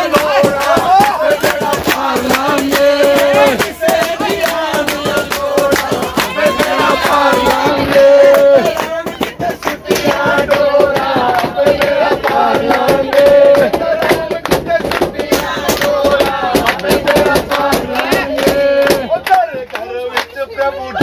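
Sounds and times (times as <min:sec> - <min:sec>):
group singing devotional song: 0:00.0 - 0:21.0
rhythmic hand-clapping: 0:00.0 - 0:21.0.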